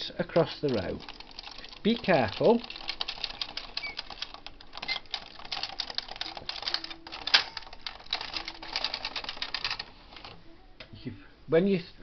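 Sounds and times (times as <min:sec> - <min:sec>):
knitting machine carriage rattling: 0:00.3 - 0:10.4.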